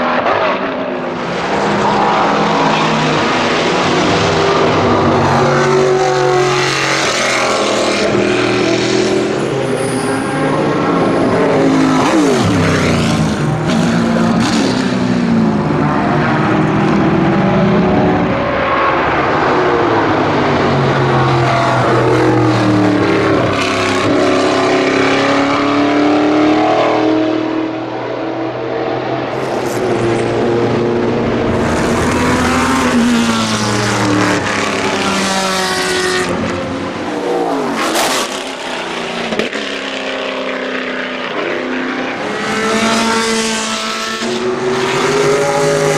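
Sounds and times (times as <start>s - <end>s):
race car engine revving: 0.0s - 28.1s, 28.8s - 45.9s.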